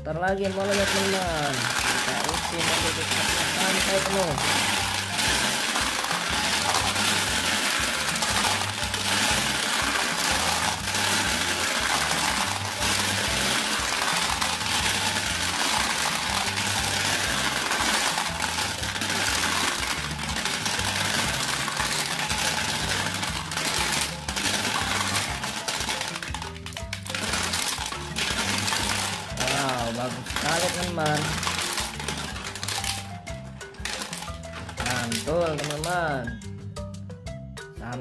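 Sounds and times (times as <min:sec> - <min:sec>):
glass marbles clattering down plastic chute: 0:00.0 - 0:36.5
background music with bass line: 0:00.0 - 0:38.0.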